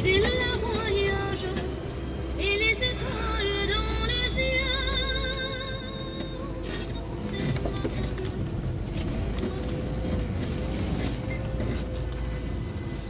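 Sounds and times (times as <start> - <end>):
car engine and tyres rumbling: 0.0 - 13.0
quiet music from car stereo: 0.0 - 13.0.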